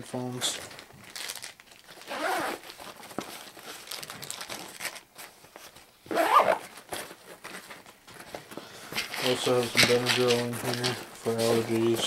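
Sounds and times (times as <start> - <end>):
rustling in nylon backpack: 2.0 - 12.0.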